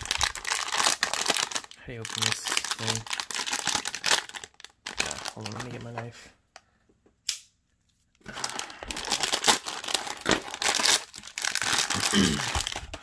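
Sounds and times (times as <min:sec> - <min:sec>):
plastic packaging crinkling and tearing: 0:00.0 - 0:06.0, 0:08.2 - 0:13.0.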